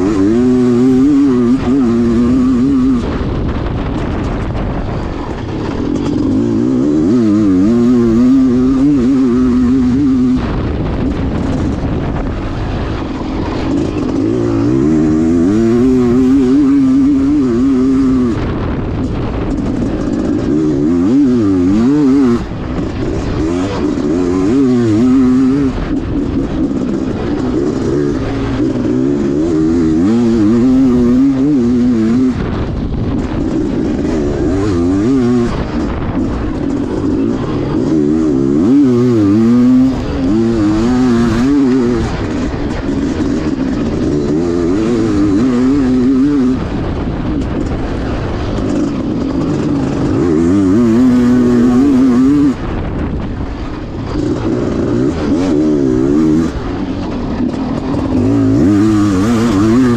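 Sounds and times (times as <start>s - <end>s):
two-stroke dirt bike engine revving: 0.0s - 59.9s.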